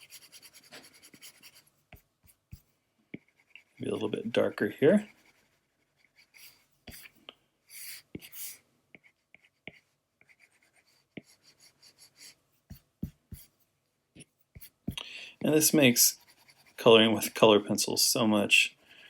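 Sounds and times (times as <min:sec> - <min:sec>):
drawing tool scratching on paper: 0:00.0 - 0:13.5, 0:14.5 - 0:17.4.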